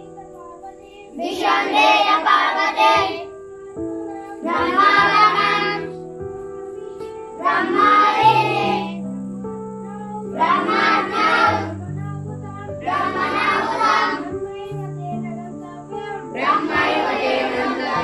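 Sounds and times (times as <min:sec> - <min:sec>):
children singing a prayer song: 0:00.0 - 0:06.0, 0:06.6 - 0:09.0, 0:09.9 - 0:14.9, 0:15.9 - 0:18.0
held instrumental notes: 0:00.0 - 0:18.0.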